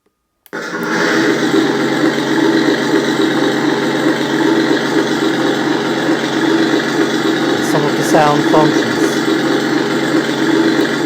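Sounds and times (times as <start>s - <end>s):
simulated tank engine idling: 1.9s - 11.0s.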